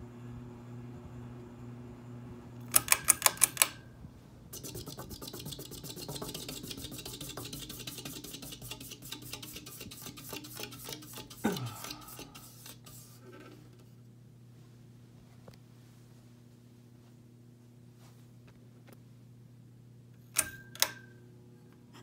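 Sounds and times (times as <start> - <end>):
ceiling fan motor buzzing: 0.0 - 19.0.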